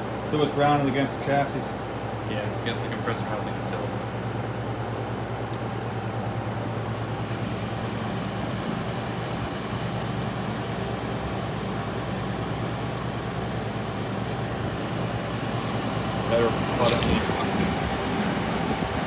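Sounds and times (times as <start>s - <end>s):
air conditioner fan: 0.0s - 19.0s
compressor humming: 0.0s - 19.0s.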